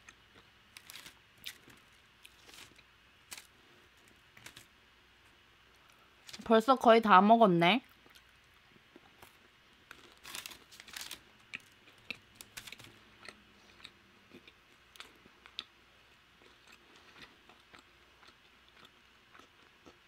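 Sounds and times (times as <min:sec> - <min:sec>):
crunchy chewing: 0:00.0 - 0:04.7, 0:07.9 - 0:20.0.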